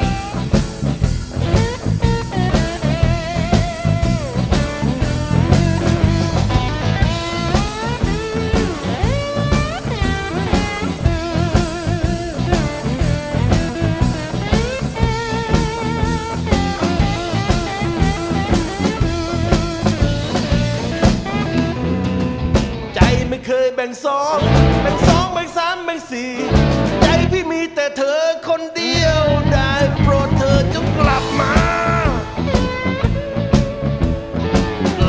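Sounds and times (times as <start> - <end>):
slide guitar solo: 0.0 - 23.1, 24.4 - 25.3, 29.0 - 35.0
electric bass: 0.0 - 23.4, 24.4 - 25.4, 26.4 - 27.4, 28.9 - 35.0
drum kit: 0.0 - 23.5, 24.4 - 25.6, 26.4 - 27.5, 29.0 - 35.0.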